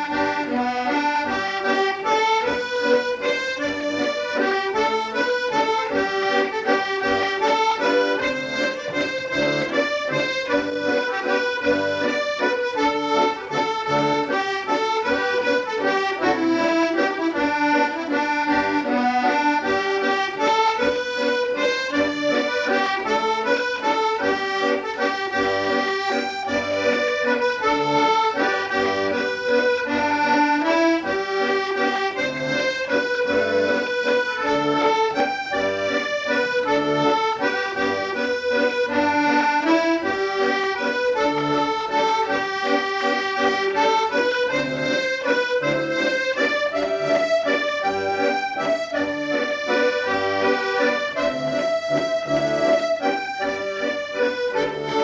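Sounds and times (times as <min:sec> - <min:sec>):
accordion playing: 0:00.0 - 0:55.0.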